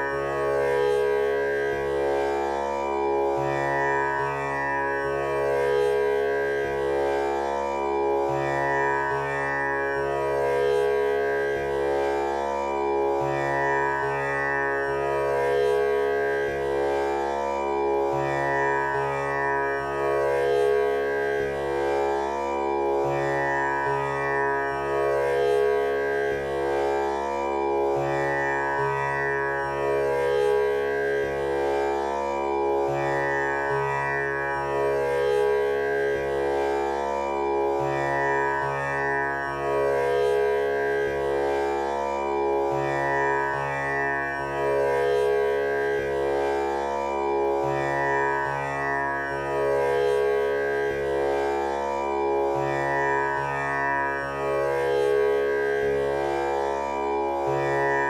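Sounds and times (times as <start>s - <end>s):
tanpura drone: 0.0s - 58.0s.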